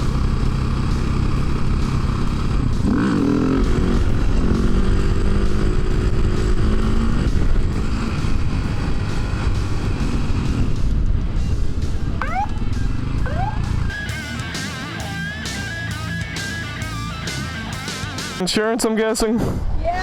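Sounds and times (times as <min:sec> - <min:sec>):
motorcycle engine revving: 0:00.0 - 0:18.4
riding noise: 0:00.0 - 0:18.6.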